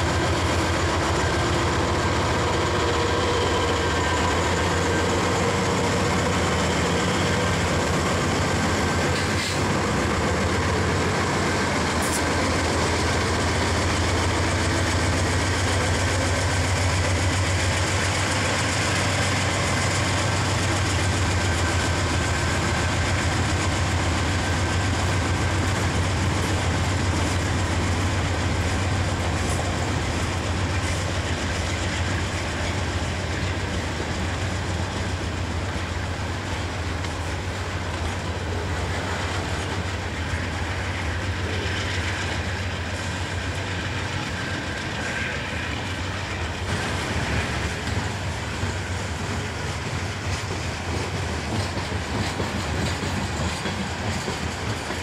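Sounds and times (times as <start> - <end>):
locomotive diesel engine: 0.0 - 55.0
train cars clacking over rails: 0.0 - 55.0.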